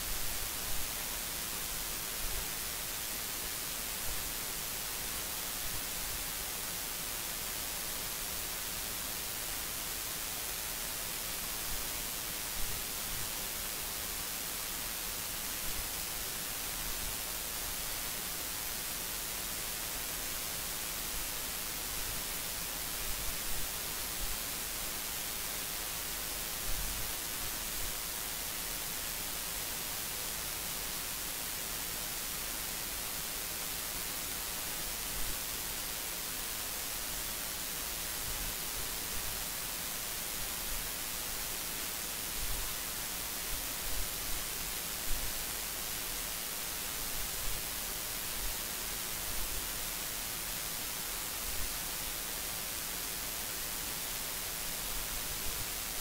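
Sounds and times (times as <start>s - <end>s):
recording noise hiss: 0.0s - 56.0s.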